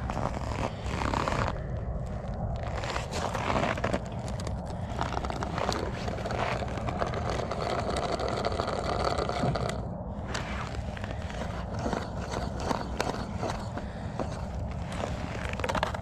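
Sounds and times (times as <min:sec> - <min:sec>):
scraping and grinding on ice: 0:00.0 - 0:16.0
steady low rumble: 0:00.0 - 0:16.0.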